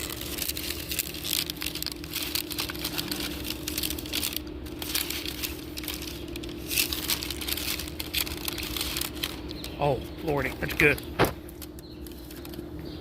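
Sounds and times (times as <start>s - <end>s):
paper wrappers crinkling: 0.0s - 12.8s
steady low hum: 0.0s - 13.0s.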